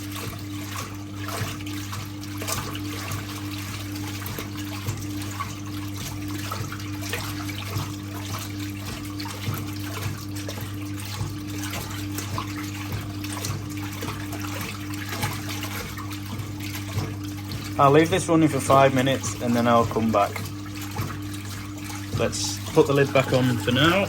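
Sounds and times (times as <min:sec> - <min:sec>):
washing machine motor hum: 0:00.0 - 0:24.0
water sloshing and splashing: 0:00.0 - 0:24.0.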